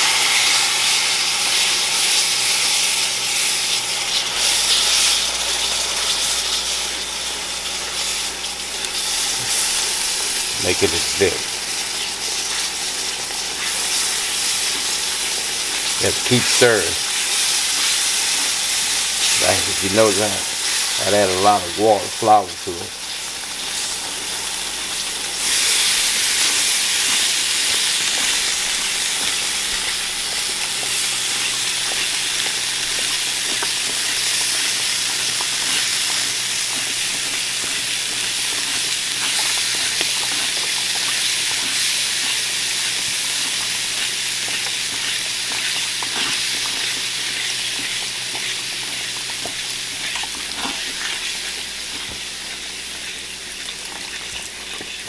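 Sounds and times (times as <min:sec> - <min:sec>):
broth sizzling in a skillet: 0:00.0 - 0:55.0.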